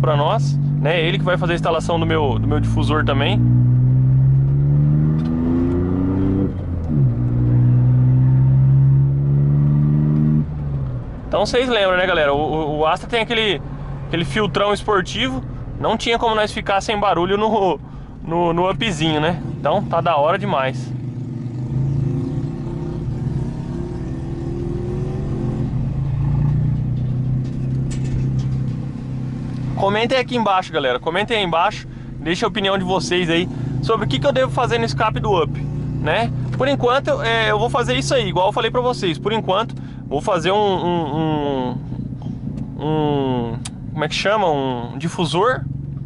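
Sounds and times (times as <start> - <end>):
car engine accelerating: 0.0 - 46.0.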